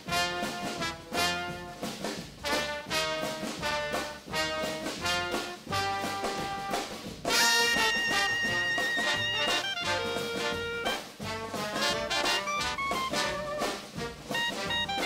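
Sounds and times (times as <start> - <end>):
jazzy brass music: 0.0 - 15.0.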